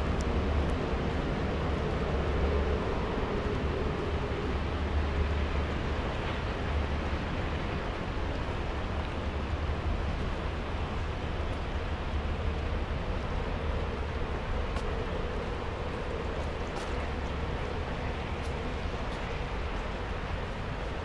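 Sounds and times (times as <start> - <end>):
low constant rumble: 0.0 - 21.0
water rushing in canal: 0.0 - 21.0.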